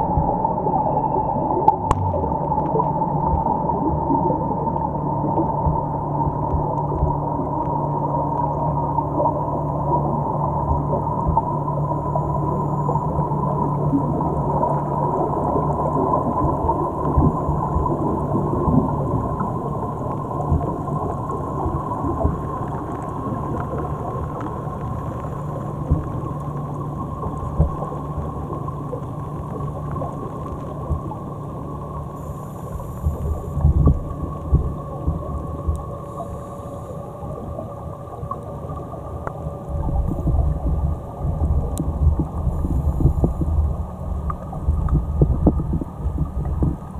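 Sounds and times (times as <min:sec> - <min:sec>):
faint steady tone: 0:00.0 - 0:46.9
muffled underwater rumble: 0:00.0 - 0:46.9
water rushes: 0:00.0 - 0:46.9.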